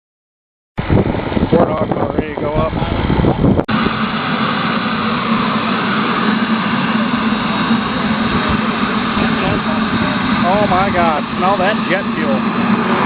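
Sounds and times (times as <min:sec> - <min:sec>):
model jet turbines running: 0:00.8 - 0:13.0.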